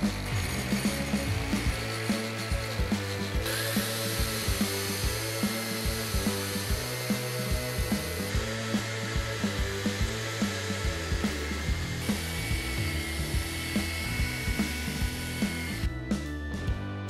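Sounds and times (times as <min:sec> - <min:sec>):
power tool wire brush whirring: 0:00.0 - 0:16.0
background music with steady beat: 0:00.0 - 0:17.0.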